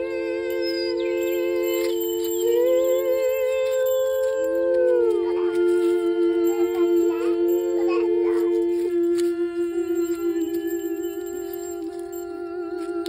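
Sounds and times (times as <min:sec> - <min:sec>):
women humming in harmony: 0:00.0 - 0:13.0.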